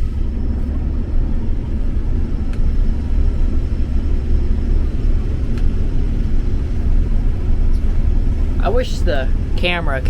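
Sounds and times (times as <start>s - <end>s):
combine harvester cab rumble: 0.0s - 10.0s.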